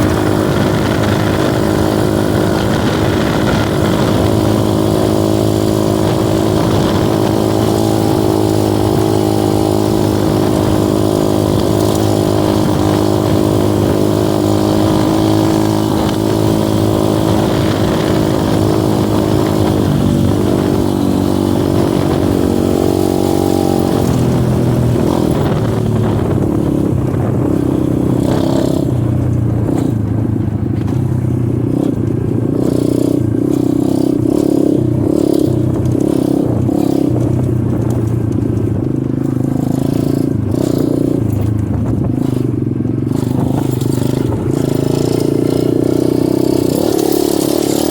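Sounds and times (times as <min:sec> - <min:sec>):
clatter and scraping on trail: 0:00.0 - 0:47.9
dirt bike engine running: 0:00.0 - 0:47.9.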